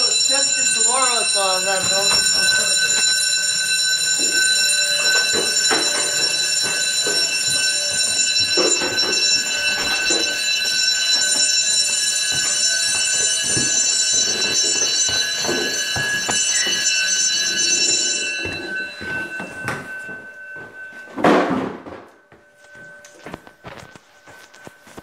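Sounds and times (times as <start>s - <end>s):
fire alarm bells ringing: 0.0s - 25.0s
footsteps and handling knocks: 4.1s - 25.0s.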